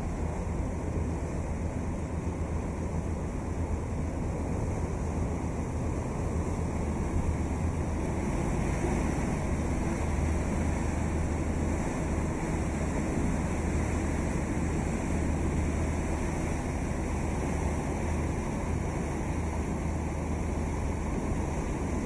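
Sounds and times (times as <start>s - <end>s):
boat engine rumble: 0.0s - 22.0s
water noise: 0.0s - 22.0s.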